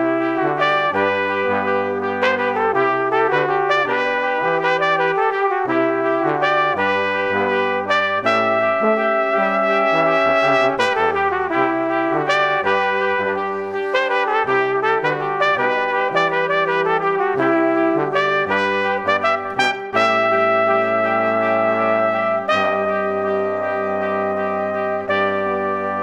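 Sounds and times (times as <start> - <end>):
brass quartet playing: 0.0 - 26.0.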